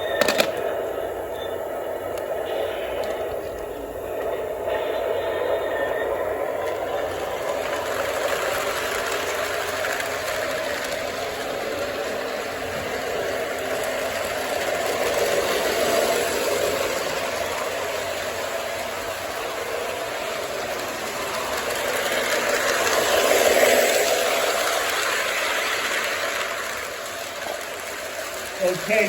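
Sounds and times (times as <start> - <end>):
model train whirring on track: 0.0 - 29.0.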